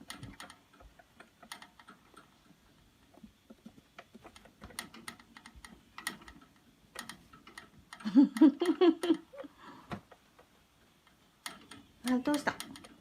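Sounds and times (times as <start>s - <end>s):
light clicking and tapping: 0.0s - 13.0s.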